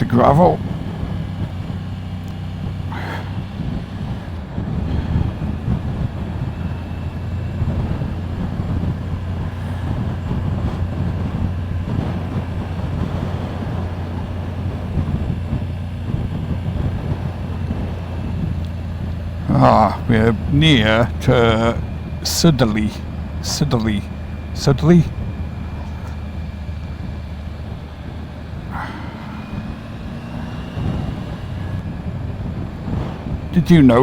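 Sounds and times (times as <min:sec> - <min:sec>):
motorcycle engine at low revs: 0:00.0 - 0:34.0
road and wind noise: 0:00.0 - 0:34.0.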